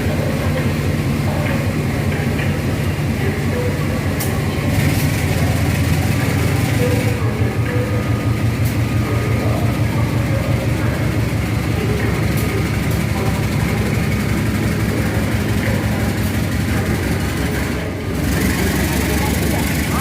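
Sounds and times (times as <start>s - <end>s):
train running: 0.0s - 20.0s.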